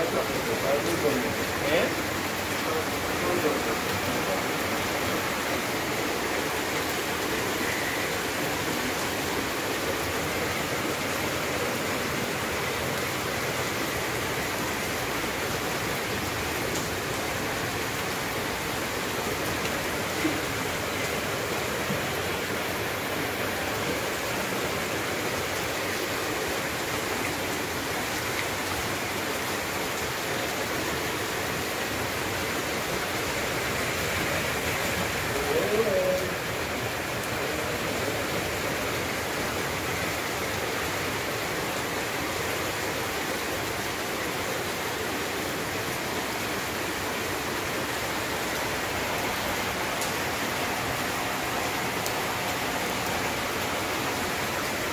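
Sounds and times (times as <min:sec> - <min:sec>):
steady rain on pavement and cars: 0:00.0 - 0:54.9.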